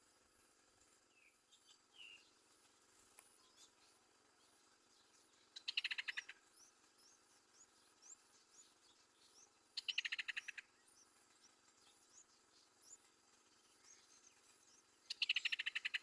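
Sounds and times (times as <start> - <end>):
bird chirping: 1.1 - 2.6, 3.4 - 16.0.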